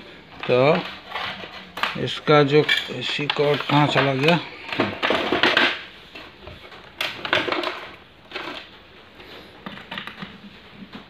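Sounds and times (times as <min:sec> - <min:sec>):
cords rustling and clattering: 0:00.0 - 0:11.0.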